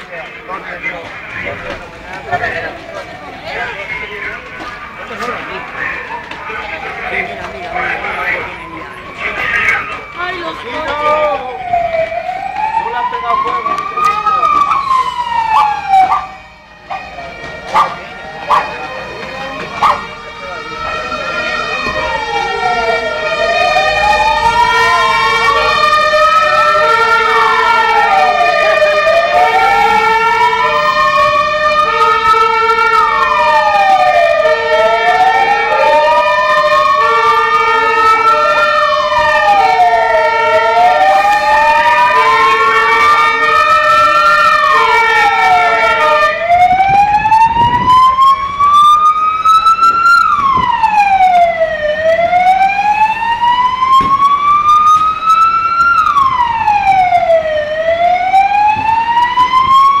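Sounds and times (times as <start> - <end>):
fire engine siren wailing: 0.0 - 60.0
siren stepped tones: 0.0 - 60.0.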